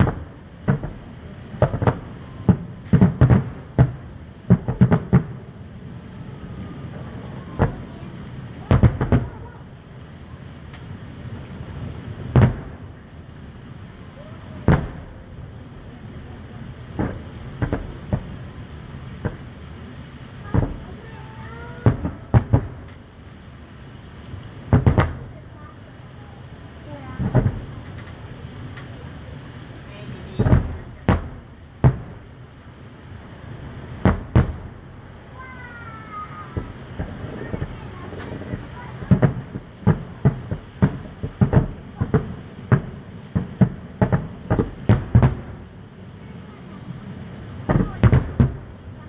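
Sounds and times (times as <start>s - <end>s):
fireworks booming: 0.0s - 49.0s
steady low rumble: 0.0s - 49.0s.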